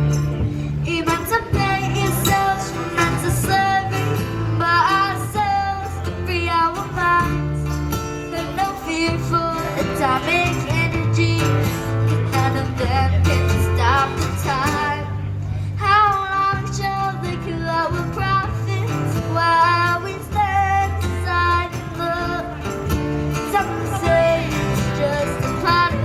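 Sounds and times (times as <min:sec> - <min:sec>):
guitar accompaniment: 0:00.0 - 0:26.0
person singing: 0:00.8 - 0:07.5, 0:08.2 - 0:22.7, 0:23.4 - 0:26.0.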